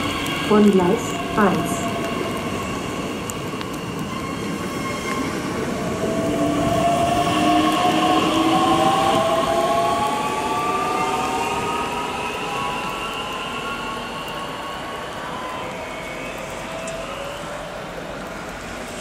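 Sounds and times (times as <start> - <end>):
electric train traction whine: 0.0 - 19.0
wheels rumbling on rail: 0.0 - 19.0.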